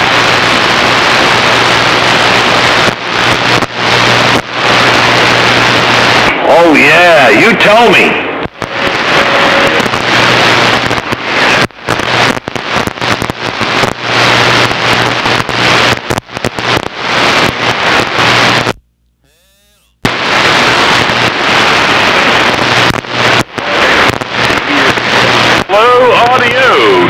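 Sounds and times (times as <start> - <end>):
radio static and crackle: 0.0 - 27.0
steady low hum: 0.0 - 27.0.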